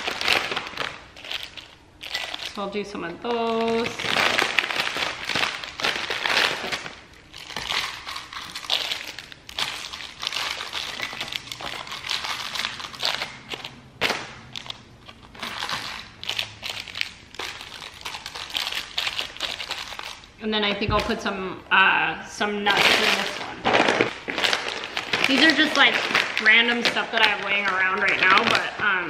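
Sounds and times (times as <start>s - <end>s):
plastic bag and wrappers crinkling: 0.0s - 20.4s, 22.6s - 29.0s.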